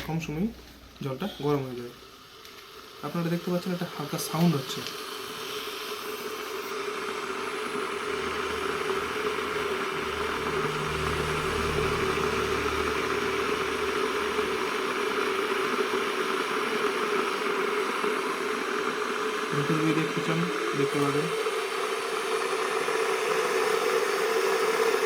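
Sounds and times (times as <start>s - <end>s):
electric kettle hissing: 0.0s - 25.0s.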